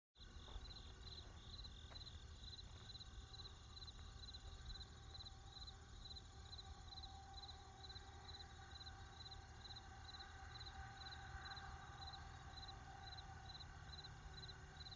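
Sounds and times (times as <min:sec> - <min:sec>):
crickets chirping: 0:00.2 - 0:14.9.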